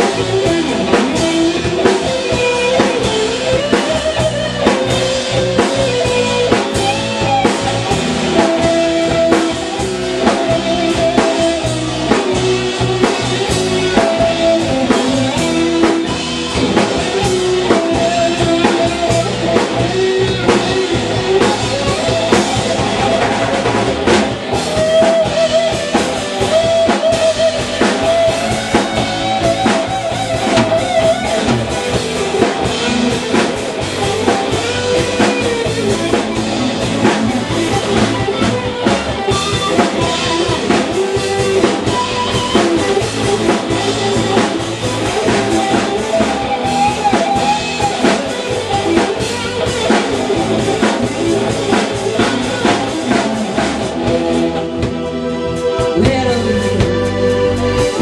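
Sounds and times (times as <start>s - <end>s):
drum strikes: 0.0s - 55.1s
loud band music: 0.0s - 58.0s.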